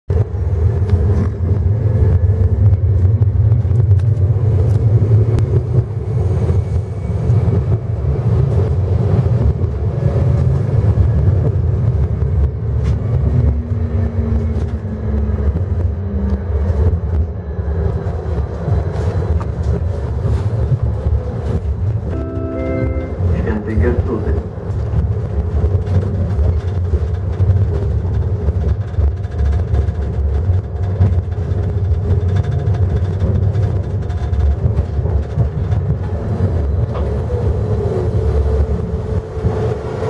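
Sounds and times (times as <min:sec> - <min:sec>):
tram wheels rumbling on rails: 0:00.1 - 0:40.0.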